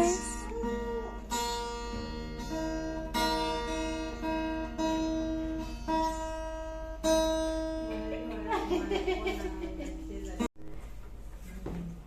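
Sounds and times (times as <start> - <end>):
plucked string instrument melody: 0.0 - 10.5.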